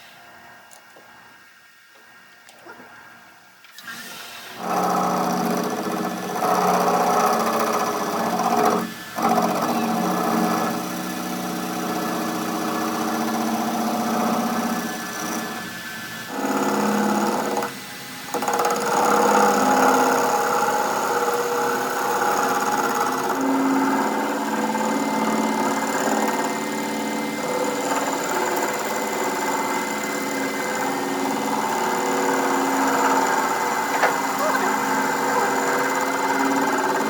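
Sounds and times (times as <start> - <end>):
workshop machine humming: 4.5 - 37.0.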